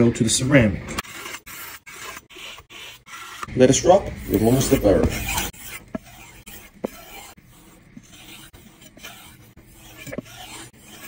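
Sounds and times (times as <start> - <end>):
knife blade stroked on wood: 1.0 - 11.0.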